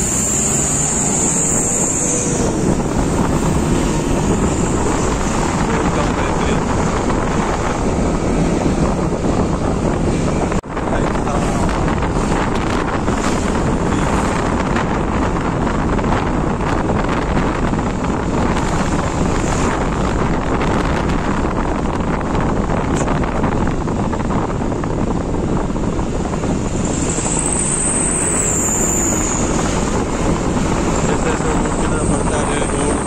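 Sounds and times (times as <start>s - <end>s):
traffic: 0.0s - 33.0s
wind on microphone: 0.0s - 33.0s.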